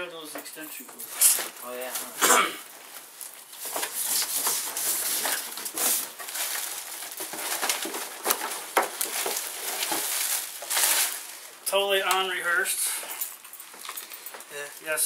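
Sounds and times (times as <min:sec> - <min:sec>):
plastic packaging crinkling: 0:01.1 - 0:12.6, 0:13.2 - 0:15.0.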